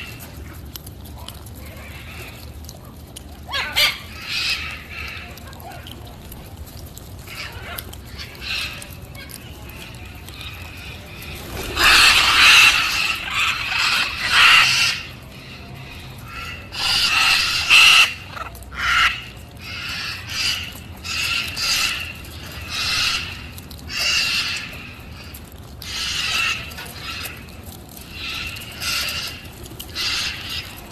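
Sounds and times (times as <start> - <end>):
macaws calling harshly: 3.5 - 5.6, 7.3 - 30.9.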